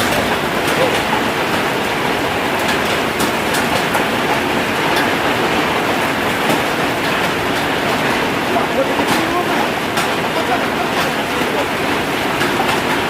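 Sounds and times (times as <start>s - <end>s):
hail ticking: 0.0s - 13.0s
heavy rain and wind roar: 0.0s - 13.0s.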